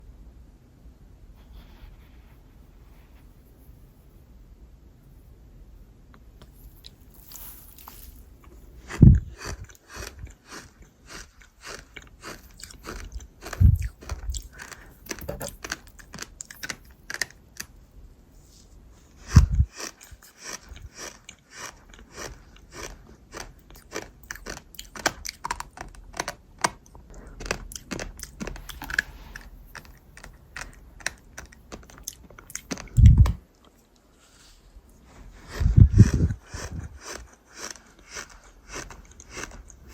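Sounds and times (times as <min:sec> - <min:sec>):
person chewing crunchy food: 0:06.5 - 0:17.7, 0:19.0 - 0:39.9.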